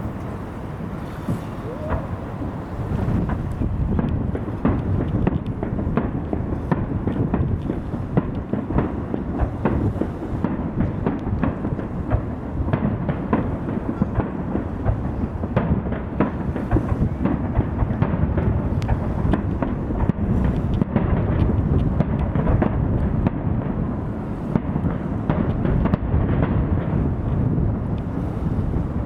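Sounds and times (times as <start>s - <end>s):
fireworks booming: 0.0s - 29.0s
fireworks cracking: 0.0s - 29.0s.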